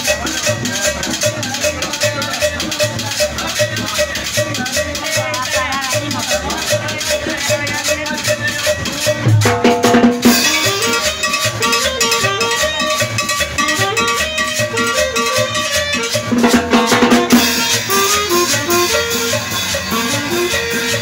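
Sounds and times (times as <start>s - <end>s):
hand drums: 0.0s - 21.0s
latin dance music: 0.0s - 21.0s
metal scraper rhythm: 0.0s - 21.0s.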